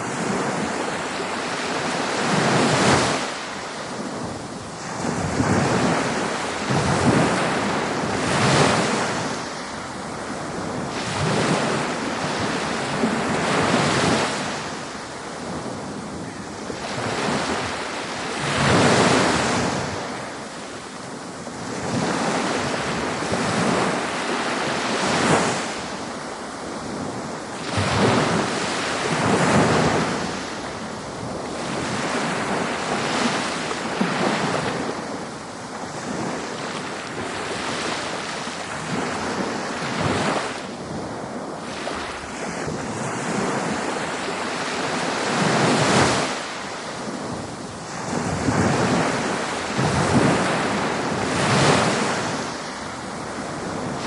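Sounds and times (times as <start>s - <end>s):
ocean waves crashing on beach: 0.0s - 54.0s.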